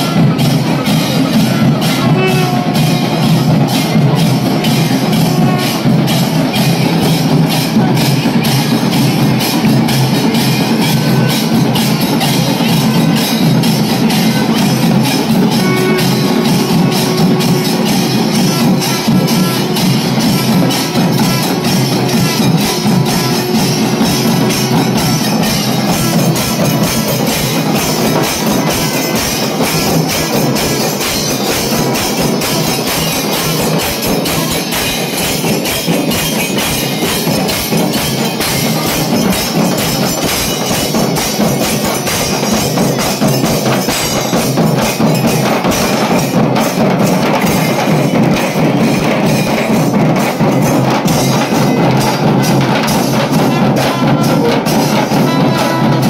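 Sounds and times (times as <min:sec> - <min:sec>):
hand cymbals: 0:00.0 - 0:56.0
large barrel drums beating: 0:00.0 - 0:56.0.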